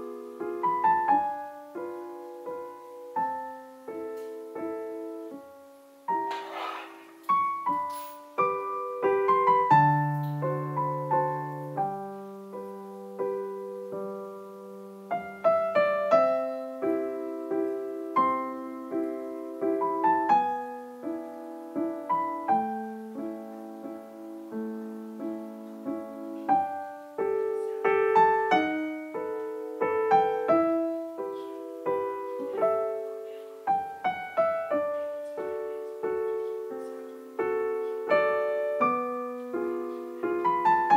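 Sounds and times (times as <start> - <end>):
gentle piano music: 0.0 - 40.9.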